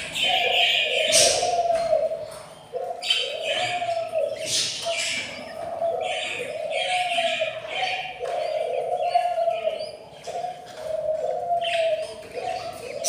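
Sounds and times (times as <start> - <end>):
bird chicks raspy begging calls: 0.0 - 13.0.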